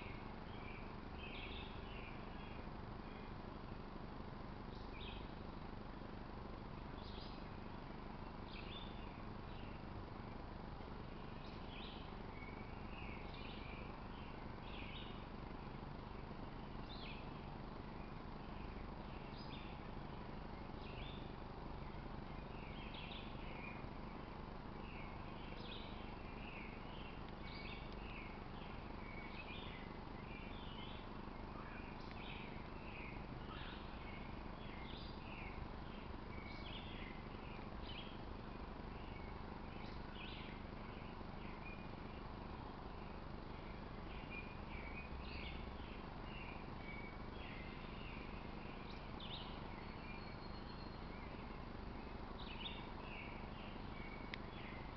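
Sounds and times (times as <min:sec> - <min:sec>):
small birds chirping: 0:00.0 - 0:54.9
steady background hiss: 0:00.0 - 0:54.9.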